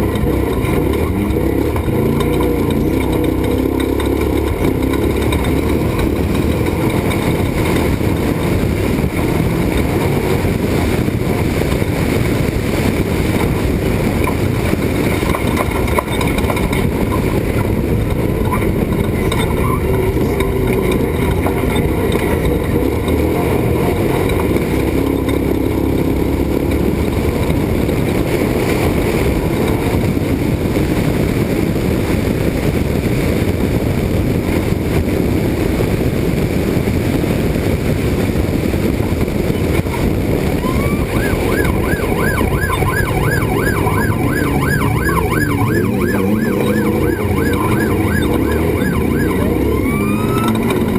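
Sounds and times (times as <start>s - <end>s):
truck engine rumbling at speed: 0.0s - 50.9s.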